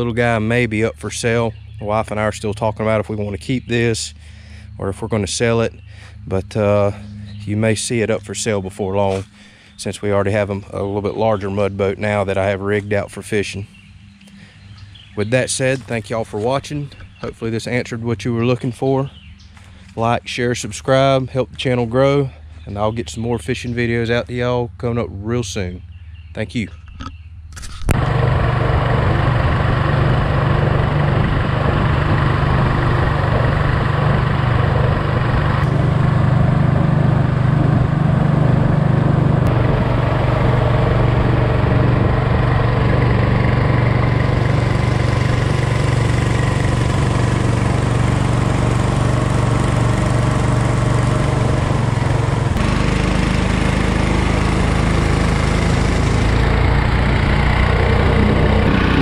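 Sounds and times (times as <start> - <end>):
boat motor running: 0.0 - 22.1, 27.8 - 59.0.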